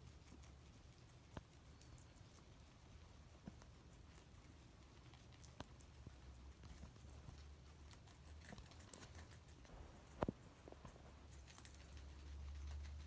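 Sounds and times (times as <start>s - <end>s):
guinea pigs crunching vegetables: 0.0s - 13.0s
low steady hum: 0.0s - 13.0s.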